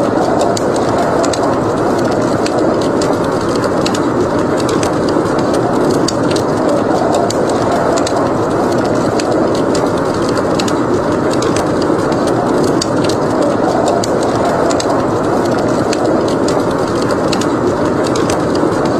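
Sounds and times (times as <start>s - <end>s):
blizzard wind: 0.0s - 18.9s
wood fire crackling: 0.0s - 18.9s.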